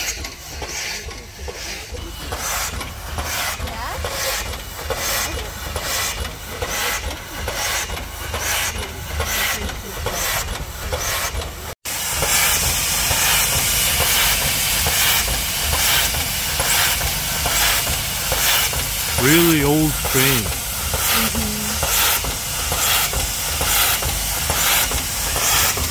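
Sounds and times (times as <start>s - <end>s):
steam hissing: 0.0s - 25.9s
steam locomotive chuffing: 0.0s - 25.9s.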